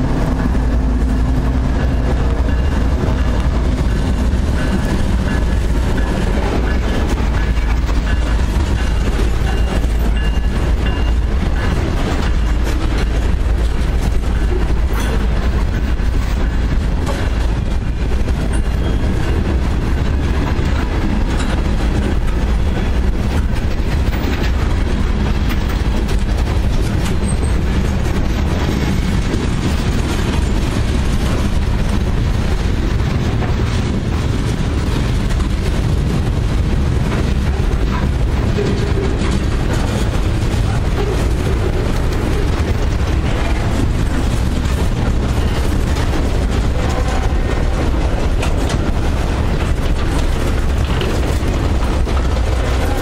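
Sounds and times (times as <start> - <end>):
steel wheels rumbling on rail: 0.0 - 53.0
wheels clacking over rail joints: 0.0 - 53.0.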